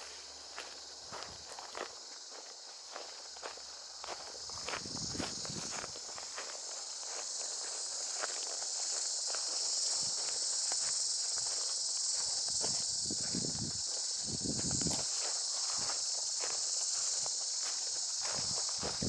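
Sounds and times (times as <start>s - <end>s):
footsteps crunching on path: 0.0s - 19.0s
insects droning: 0.0s - 19.0s.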